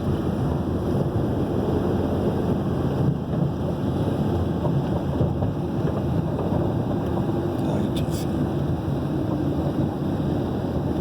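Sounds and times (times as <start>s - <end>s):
vehicle road and engine rumble: 0.0s - 11.0s
wind noise: 0.0s - 11.0s.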